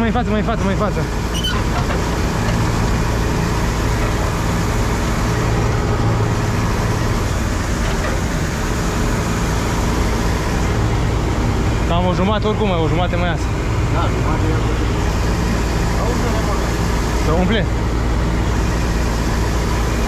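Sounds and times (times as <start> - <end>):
combine harvester droning: 0.0 - 20.0.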